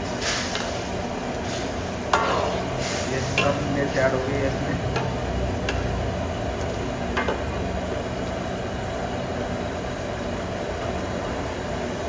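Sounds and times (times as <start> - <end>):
sauce boiling with bubbling hiss: 0.0 - 12.0.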